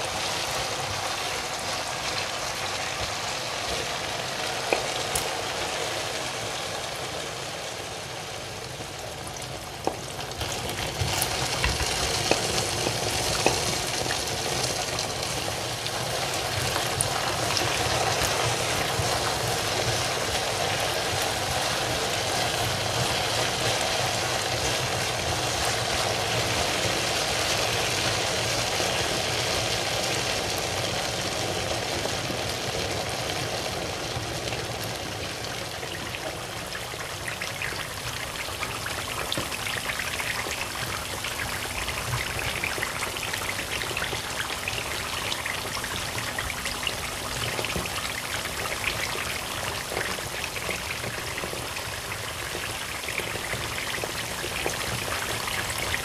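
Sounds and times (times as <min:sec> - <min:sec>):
potatoes frying in hot oil: 0:00.0 - 0:56.0.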